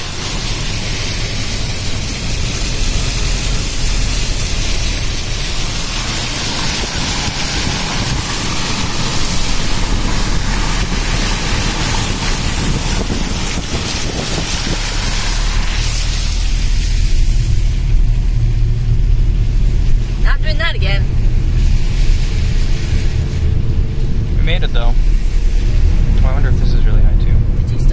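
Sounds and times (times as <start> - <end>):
low engine and road rumble: 0.0 - 27.9
tyres spraying water: 0.0 - 27.9.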